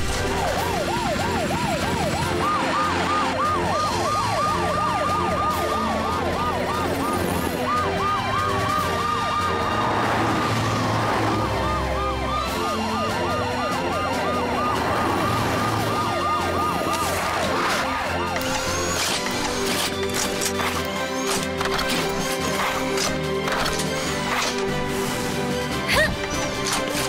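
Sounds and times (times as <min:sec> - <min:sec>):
higher siren: 0:00.0 - 0:24.6
sirens wailing: 0:00.0 - 0:27.0.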